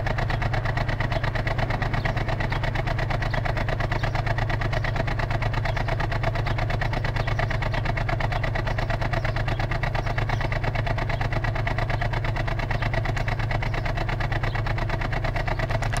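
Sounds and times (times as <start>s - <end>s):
car engine idling with misfire: 0.0s - 16.0s.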